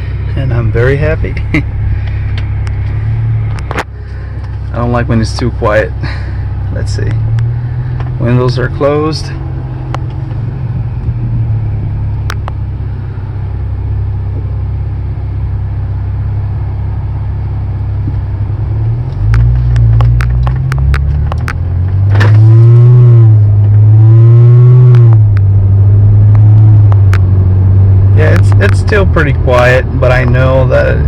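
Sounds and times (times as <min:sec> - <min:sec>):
car exhaust drone from inside cabin: 0:00.0 - 0:31.0.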